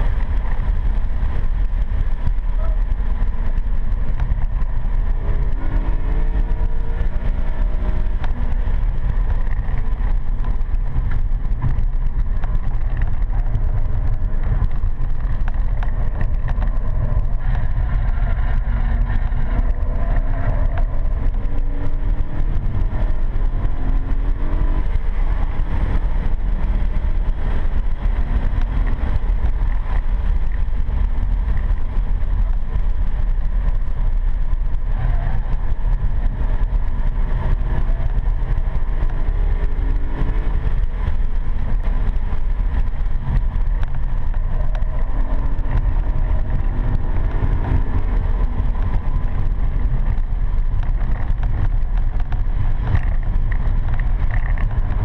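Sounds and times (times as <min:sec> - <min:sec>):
engine revving through gears: 0:00.0 - 0:55.0.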